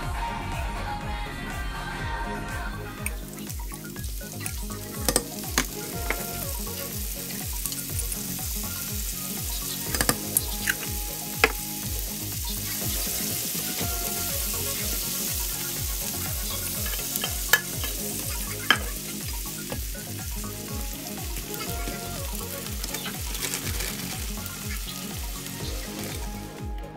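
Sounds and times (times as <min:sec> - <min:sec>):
hot fat popping and spitting: 0:03.0 - 0:26.6
onions sizzling in oil: 0:03.0 - 0:26.6.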